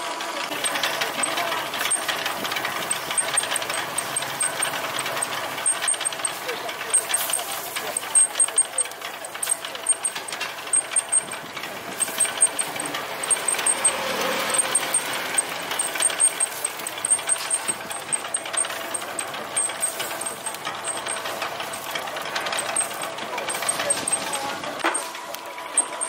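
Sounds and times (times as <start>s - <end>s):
charcoal fire crackling and popping: 0.0s - 26.0s
steady mechanical hum: 0.0s - 26.0s.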